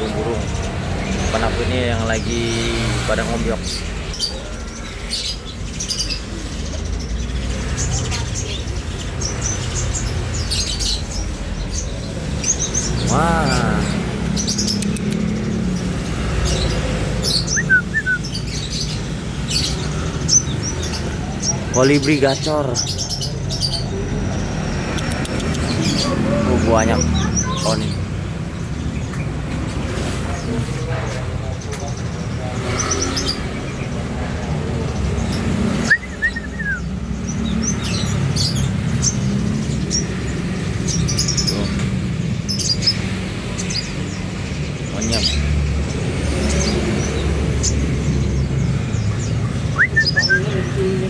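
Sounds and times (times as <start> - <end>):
songbirds chirping: 0.0 - 51.0
street traffic rumble: 0.0 - 51.0.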